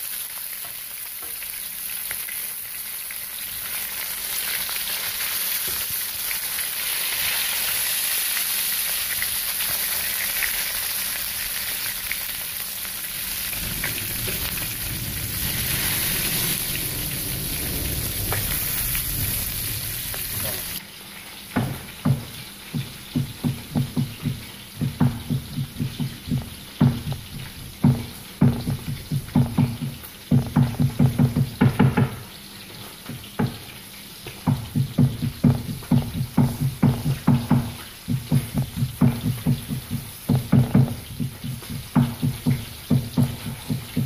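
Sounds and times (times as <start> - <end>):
fish deep-frying in hot oil: 0.0 - 44.0.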